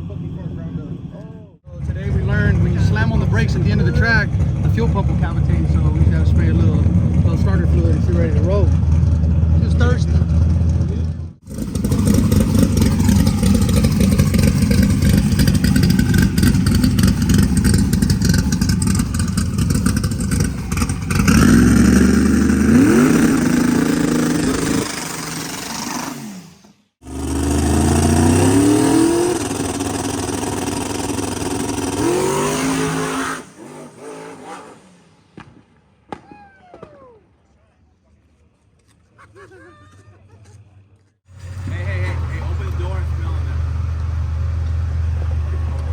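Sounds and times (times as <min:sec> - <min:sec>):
drag car engine revving: 0:00.0 - 0:35.4, 0:41.3 - 0:45.9.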